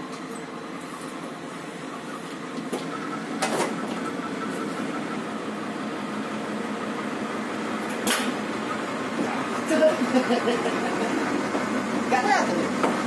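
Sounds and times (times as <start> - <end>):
diesel train humming: 0.0 - 13.0.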